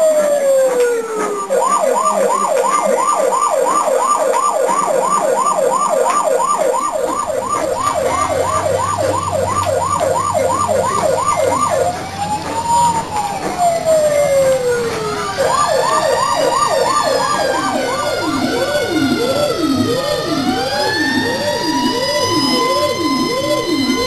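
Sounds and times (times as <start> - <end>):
emergency siren wailing and yelping: 0.0 - 24.0.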